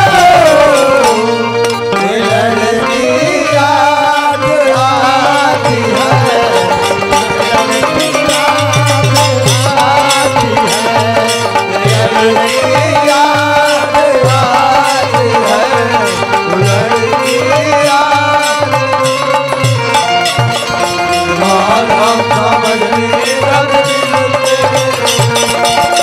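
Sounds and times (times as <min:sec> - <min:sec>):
hand drum rhythm: 0:00.0 - 0:26.0
wavering melody line: 0:00.0 - 0:26.0.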